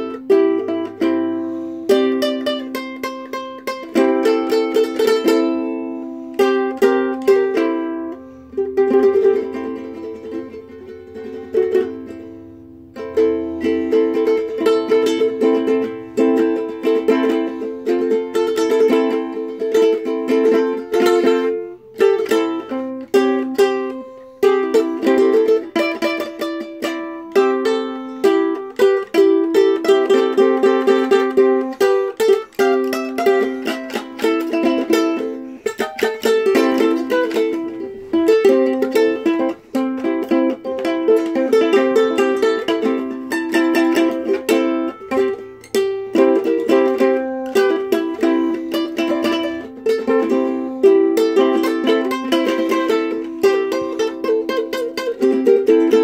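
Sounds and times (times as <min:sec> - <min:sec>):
ukulele strumming chords: 0:00.0 - 0:56.0.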